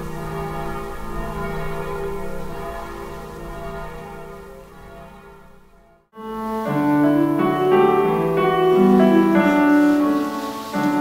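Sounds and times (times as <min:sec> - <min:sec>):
church bells ringing: 0:00.0 - 0:11.0
soft piano music: 0:00.0 - 0:11.0.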